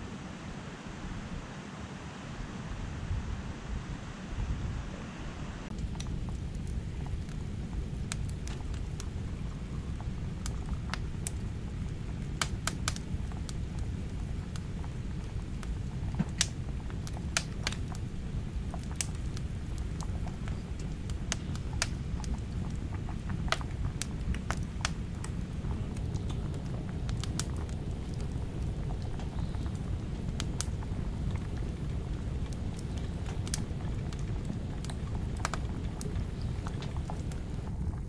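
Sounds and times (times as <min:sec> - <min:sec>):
steady low rumble: 0:00.0 - 0:38.0
firewood crackling and popping: 0:05.7 - 0:38.0.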